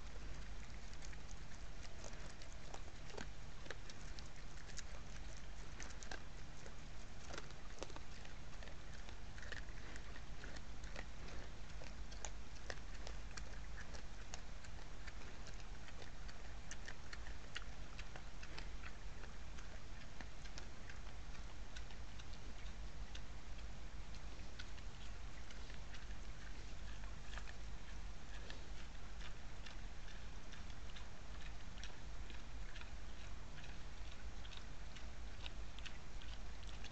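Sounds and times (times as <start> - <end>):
steady low hum: 0.0 - 36.9
wild boar rooting in leaves: 0.0 - 36.9.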